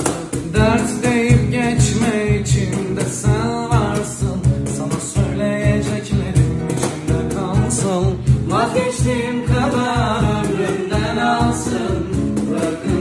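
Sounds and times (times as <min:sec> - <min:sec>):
plucked string instruments: 0:00.0 - 0:13.0.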